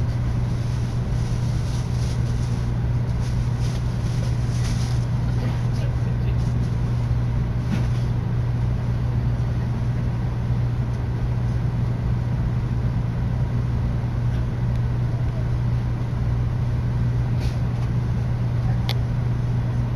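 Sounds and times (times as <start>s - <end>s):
train carriage hum and rumble: 0.0s - 19.9s.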